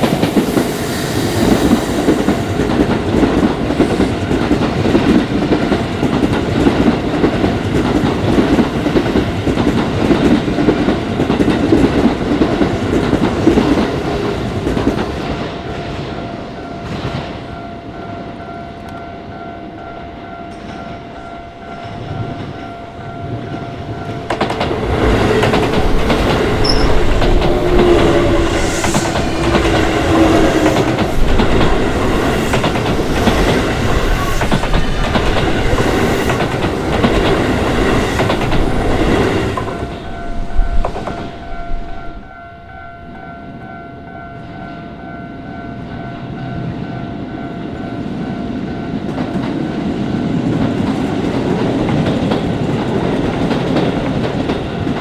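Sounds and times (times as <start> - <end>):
train wheels clattering over rails: 0.0 - 16.2, 20.5 - 42.3, 48.9 - 55.0
train approaching: 0.0 - 55.0
crossing warning bell: 2.5 - 51.4.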